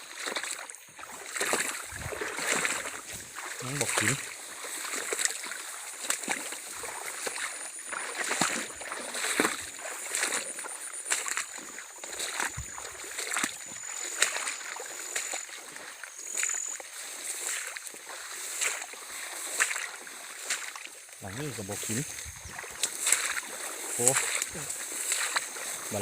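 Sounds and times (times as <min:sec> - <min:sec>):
shallow water splashing: 0:00.0 - 0:26.0.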